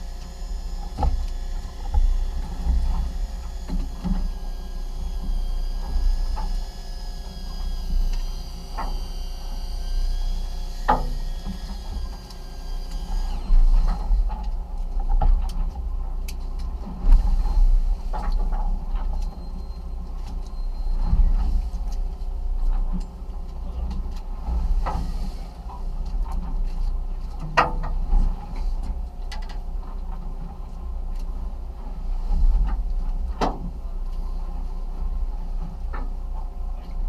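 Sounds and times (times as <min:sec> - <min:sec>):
boat engine rumbling: 0:00.0 - 0:37.0.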